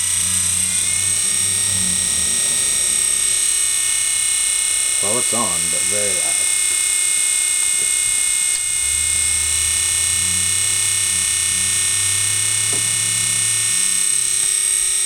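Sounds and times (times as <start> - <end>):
vent fan high-pitched buzz: 0.0 - 14.1.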